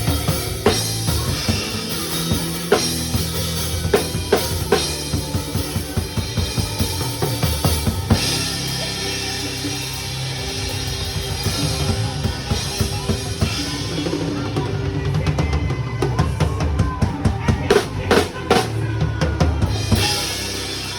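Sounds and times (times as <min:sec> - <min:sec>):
drum kit groove: 0:00.0 - 0:20.9
recorded song: 0:00.0 - 0:20.9.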